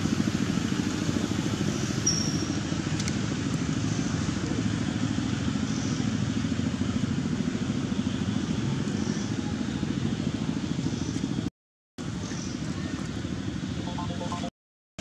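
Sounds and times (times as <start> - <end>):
engine running: 0.0 - 14.4.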